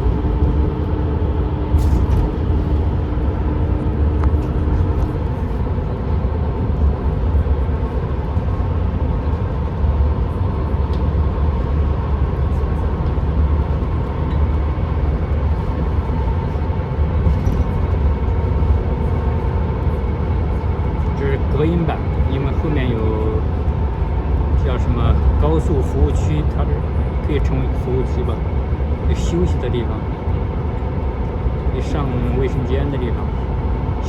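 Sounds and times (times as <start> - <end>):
vehicle engine and road rumble: 0.0 - 34.0.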